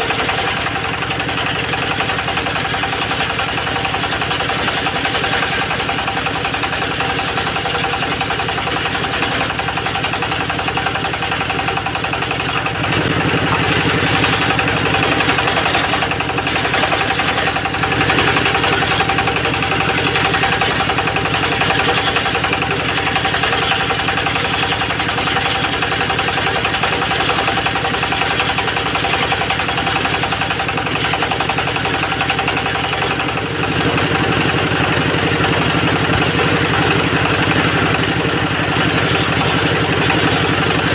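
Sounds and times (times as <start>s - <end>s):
circular saw cutting wood: 0.0s - 40.9s
sawmill engine running: 0.0s - 40.9s.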